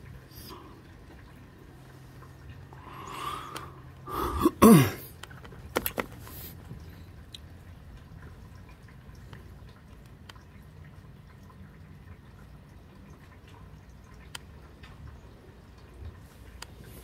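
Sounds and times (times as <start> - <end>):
drips ticking: 0.0 - 5.8, 6.4 - 17.0
light rain hiss: 0.0 - 17.0.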